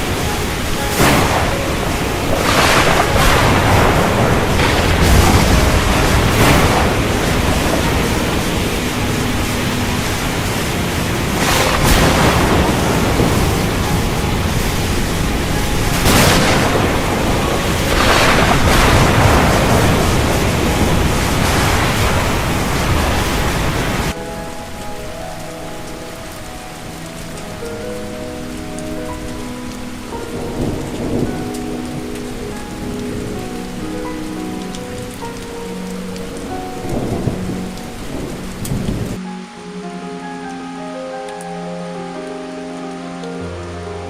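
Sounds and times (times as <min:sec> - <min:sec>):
heavy rain falling: 0:00.0 - 0:44.0
soft sustained tones: 0:00.0 - 0:44.0.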